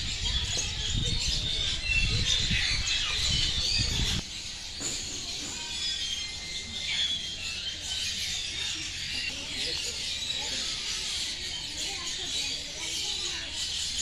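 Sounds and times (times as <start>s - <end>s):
aviary birds chirping: 0.0s - 14.0s.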